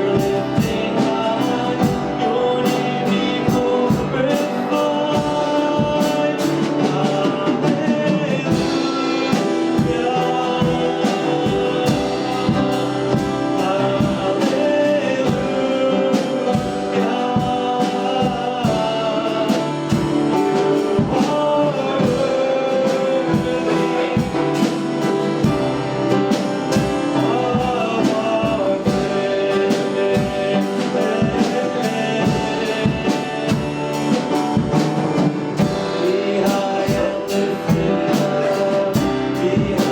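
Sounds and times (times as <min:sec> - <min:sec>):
band playing: 0:00.0 - 0:39.9
drum kit steady beat: 0:00.0 - 0:39.9
voices singing worship song: 0:00.0 - 0:39.9.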